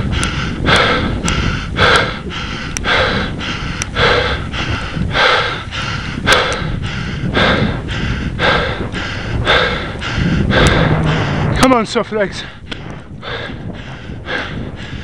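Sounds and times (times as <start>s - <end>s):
low rumble: 0.0s - 15.0s
man panting heavily: 0.0s - 15.0s.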